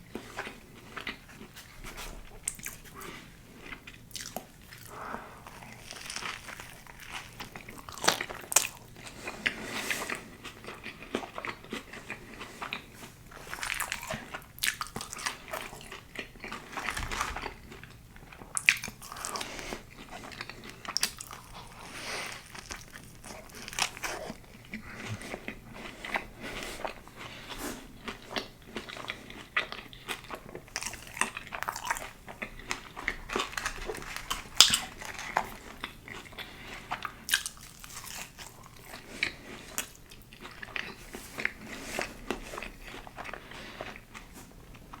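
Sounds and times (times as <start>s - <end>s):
crunchy food crunching: 0.0s - 45.0s
wet chewing and mouth sounds: 0.0s - 45.0s.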